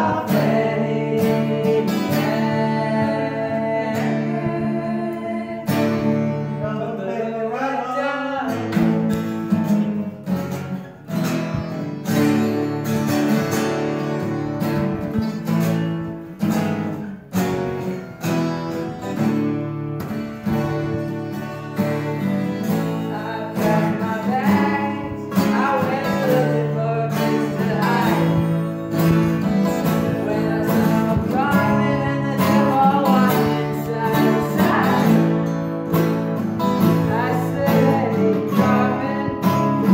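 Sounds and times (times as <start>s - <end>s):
person singing: 0.0s - 15.9s, 18.0s - 39.9s
acoustic guitars strumming: 0.0s - 39.9s.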